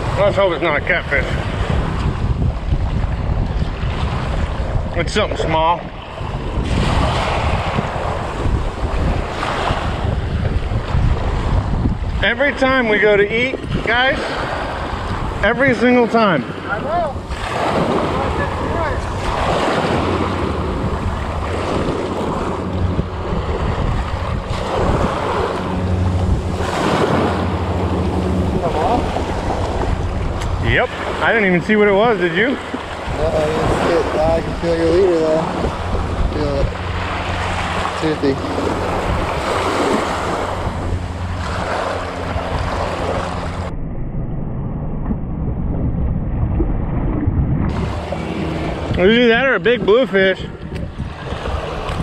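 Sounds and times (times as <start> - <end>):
small waves washing onto shore: 0.0 - 43.7, 47.1 - 52.0
wind buffeting microphone: 0.0 - 52.0.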